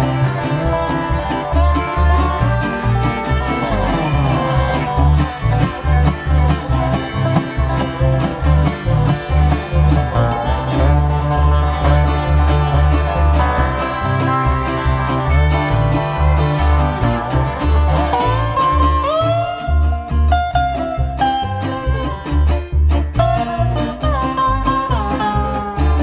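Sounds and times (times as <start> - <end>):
band playing country music: 0.0 - 26.0
plucked strings: 0.0 - 26.0
steady bass beat: 0.0 - 26.0.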